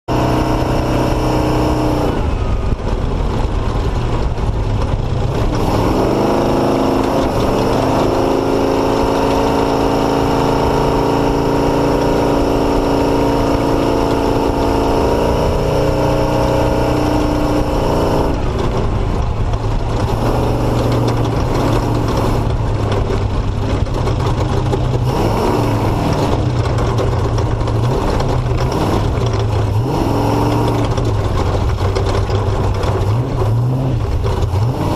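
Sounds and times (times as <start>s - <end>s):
continuous rushing noise: 0.1s - 34.9s
motorcycle engine running: 0.1s - 34.9s.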